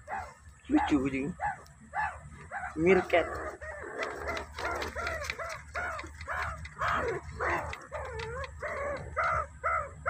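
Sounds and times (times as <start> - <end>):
meerkats barking: 0.0 - 10.0.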